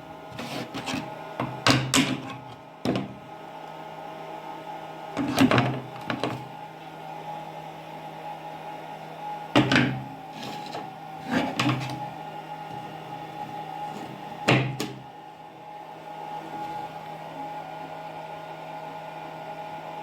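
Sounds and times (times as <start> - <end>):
machine motor hum: 0.0 - 20.0.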